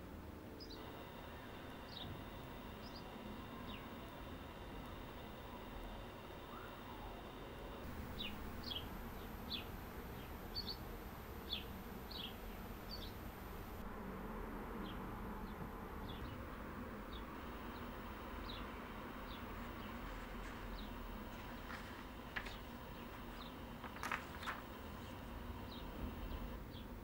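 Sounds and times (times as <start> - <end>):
small birds chirping: 0.6 - 13.8, 14.8 - 26.9.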